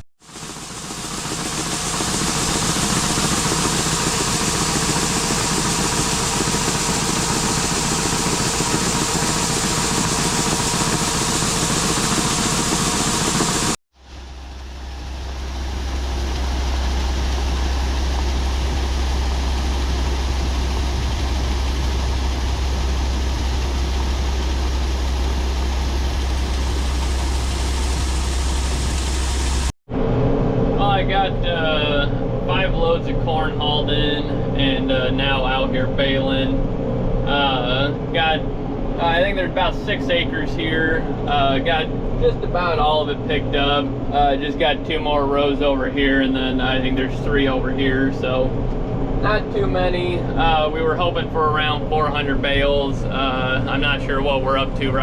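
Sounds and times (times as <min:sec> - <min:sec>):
deep engine drone with low hum: 0:00.0 - 0:55.0
farm machinery engine running: 0:00.2 - 0:55.0.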